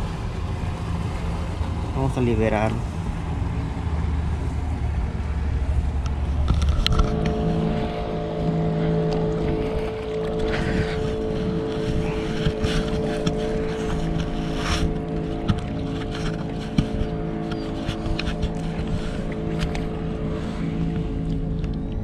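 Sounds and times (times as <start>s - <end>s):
motorboat engine droning: 0.0s - 22.0s.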